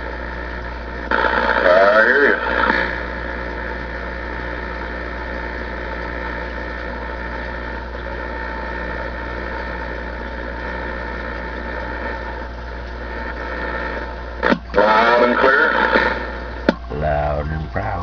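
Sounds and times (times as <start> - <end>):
radio static and hum: 0.0 - 18.0.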